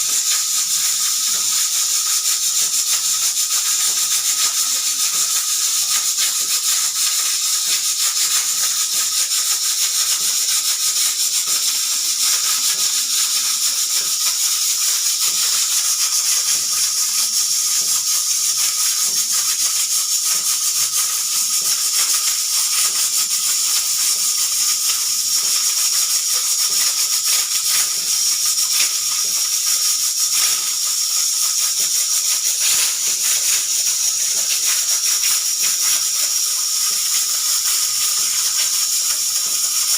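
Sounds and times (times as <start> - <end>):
pressure cooker steam hissing: 0.0 - 39.9.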